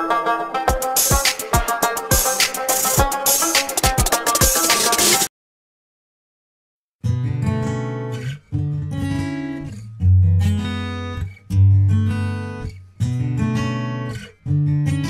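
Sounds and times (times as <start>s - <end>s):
strummed acoustic guitar chords: 0.0s - 5.2s, 7.1s - 15.0s.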